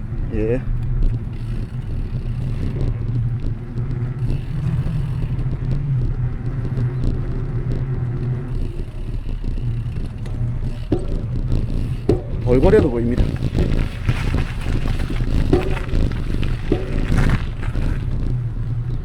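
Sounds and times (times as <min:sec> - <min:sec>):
rolling wheel noise: 0:00.0 - 0:19.0
wind buffeting microphone: 0:00.0 - 0:19.0.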